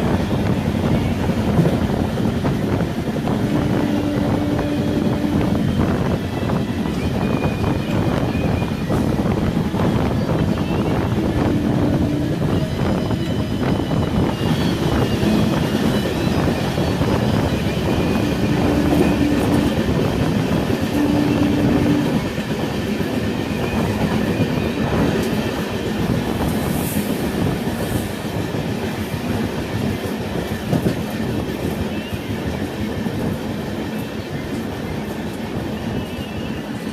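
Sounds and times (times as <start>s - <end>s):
train wheels clattering on rails: 0.0s - 3.5s, 5.4s - 36.9s.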